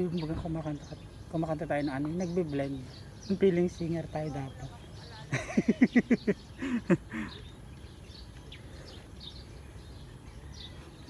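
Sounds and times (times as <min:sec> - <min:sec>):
faint bird chirps: 0:00.0 - 0:11.0
outdoor background noise: 0:00.0 - 0:11.0.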